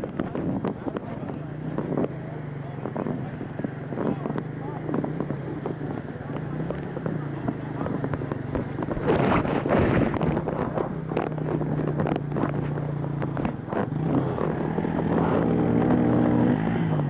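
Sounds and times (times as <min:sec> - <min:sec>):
dirt bike engine running: 0:00.0 - 0:17.0
knocks and rattles over rough ground: 0:00.0 - 0:17.0.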